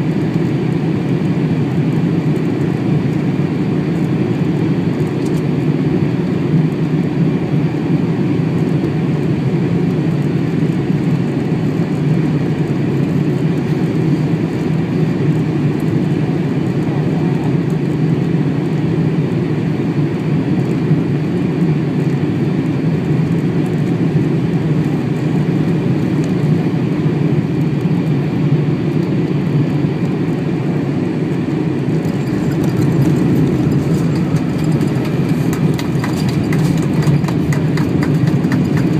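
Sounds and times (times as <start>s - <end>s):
airplane cabin engine rush: 0.0s - 38.9s.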